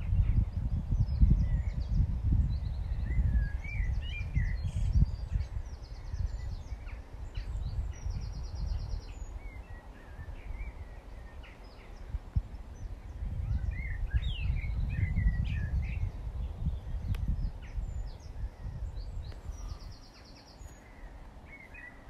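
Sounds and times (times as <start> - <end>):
songbirds chirping and trilling: 0.0 - 22.0
wind buffeting microphone: 0.0 - 22.0.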